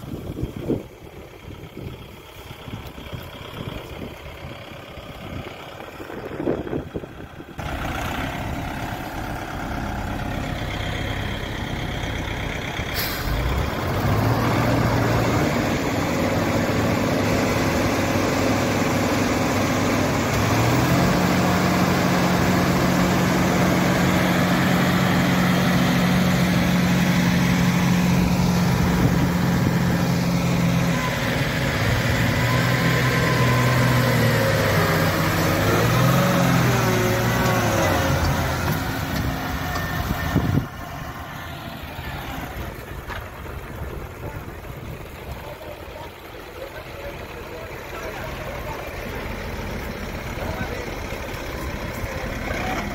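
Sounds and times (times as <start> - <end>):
diesel engines running hard: 0.0 - 52.9.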